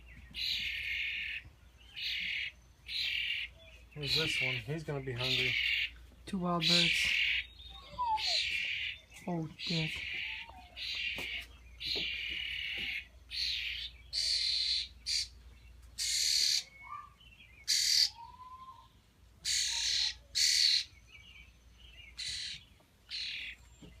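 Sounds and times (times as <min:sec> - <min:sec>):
raspy bird begging calls: 0:02.0 - 0:15.4, 0:16.0 - 0:21.0, 0:22.1 - 0:23.6.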